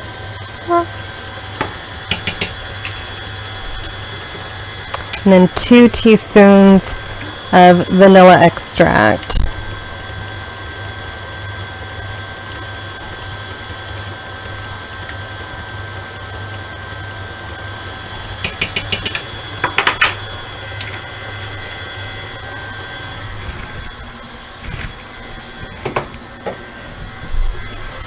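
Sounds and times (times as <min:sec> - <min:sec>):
stand mixer motor running: 0:00.0 - 0:28.0.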